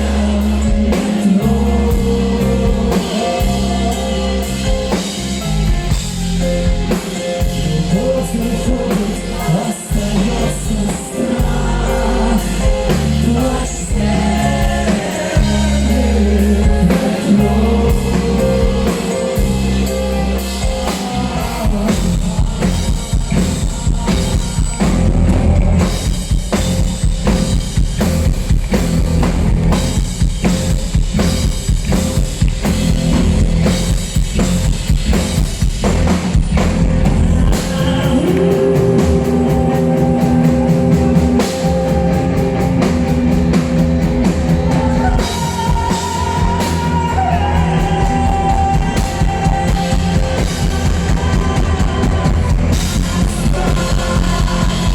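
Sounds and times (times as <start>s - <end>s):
bass: 0.0s - 54.9s
drum kit beating: 0.0s - 54.9s
melodic guitar line: 0.0s - 54.9s.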